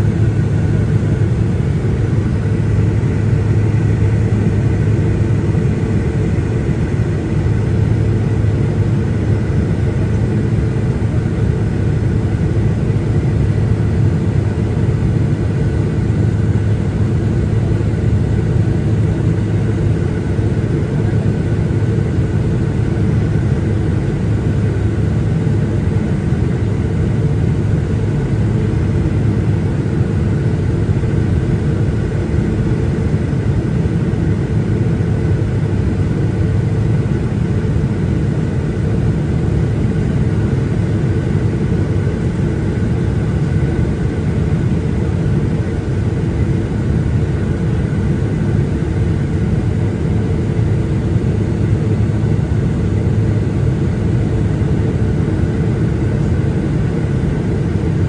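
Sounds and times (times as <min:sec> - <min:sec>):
low engine drone: 0:00.0 - 0:58.0.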